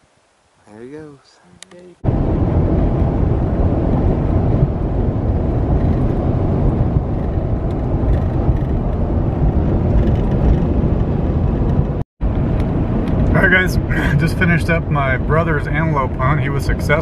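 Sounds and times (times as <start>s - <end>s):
road and wind noise in vehicle: 0.0s - 17.0s.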